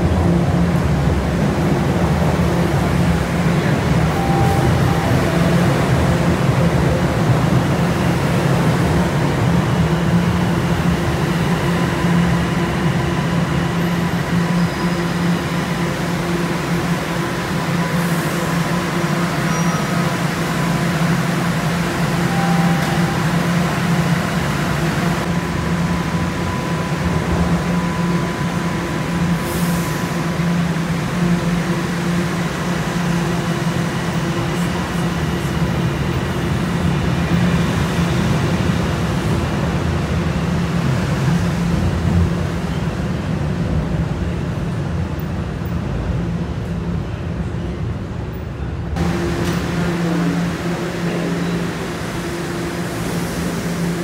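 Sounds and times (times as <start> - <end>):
subway trains rumbling: 0.0 - 54.0.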